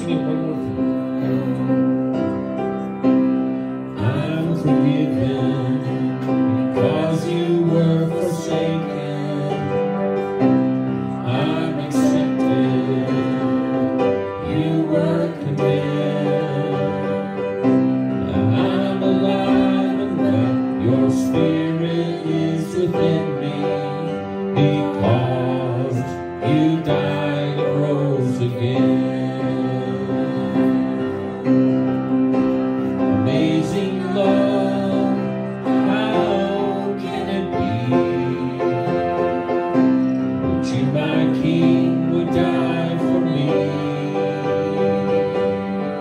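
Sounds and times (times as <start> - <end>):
person singing: 0.0 - 3.3, 3.9 - 46.0
sustained keyboard chords: 0.0 - 46.0.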